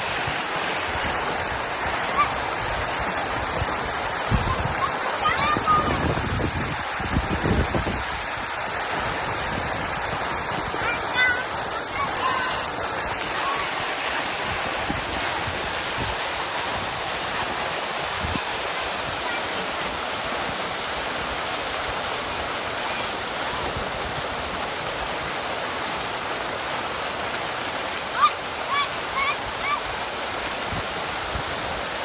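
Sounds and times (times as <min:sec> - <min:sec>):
water fountain splashing: 0:00.0 - 0:32.0.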